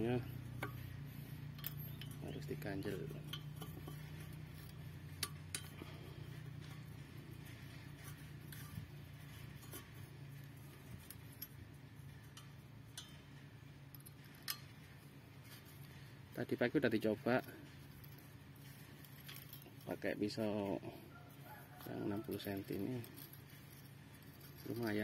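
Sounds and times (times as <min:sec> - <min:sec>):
faint low hum: 0:00.0 - 0:25.0
metallic clicks of parts handled: 0:00.0 - 0:25.0.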